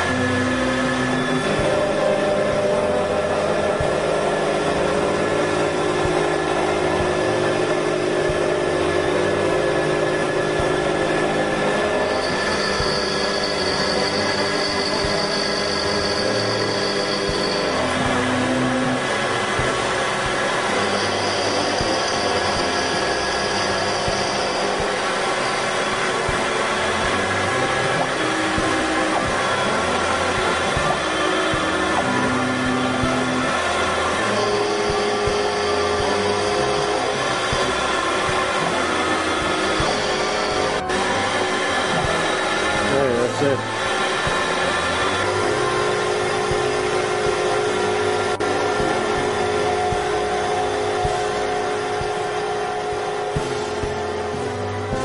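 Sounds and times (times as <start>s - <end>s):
mill machining whine: 0.0s - 55.0s.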